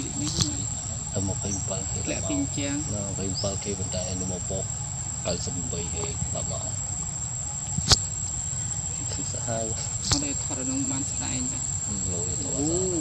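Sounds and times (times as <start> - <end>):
faint voices: 0.0 - 6.8, 8.8 - 13.0
high-pitched insect drone: 0.0 - 13.0.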